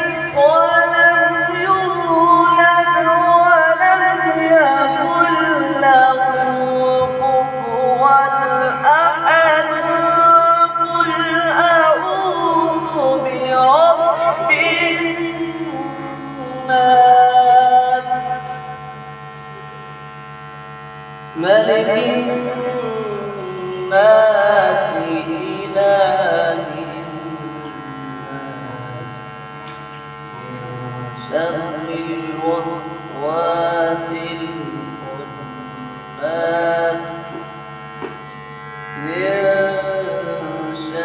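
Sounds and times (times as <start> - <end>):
man reciting melodically into microphone: 0.0 - 18.8, 21.2 - 38.3, 38.9 - 41.0
electrical mains hum: 0.0 - 41.0.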